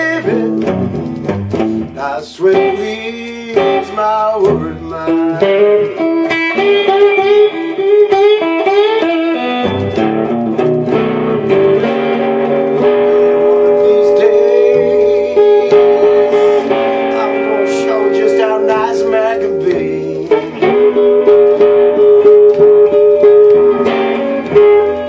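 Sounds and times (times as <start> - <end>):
slide electric guitar: 0.0 - 25.0.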